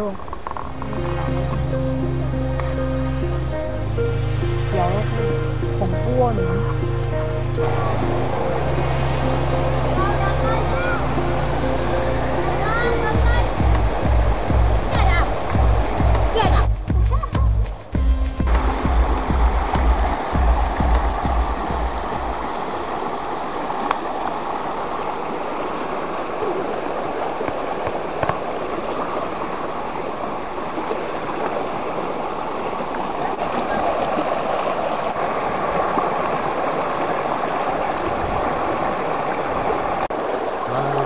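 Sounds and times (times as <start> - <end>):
stream babbling over stones: 0.0 - 41.0.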